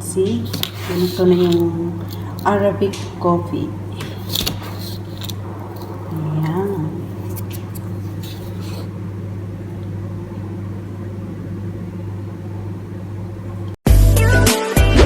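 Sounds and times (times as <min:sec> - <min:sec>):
low electrical hum: 0:00.0 - 0:13.8.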